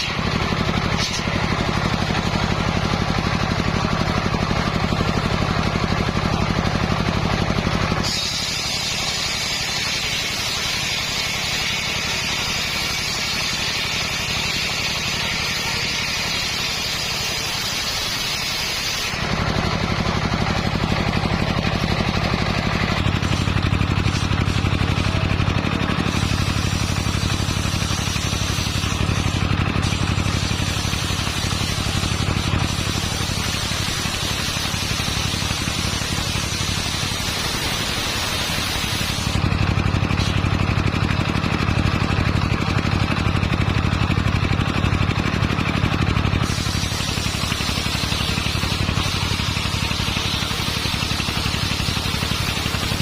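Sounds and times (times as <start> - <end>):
saw blade cutting wood: 0.0 - 40.7, 46.0 - 53.0.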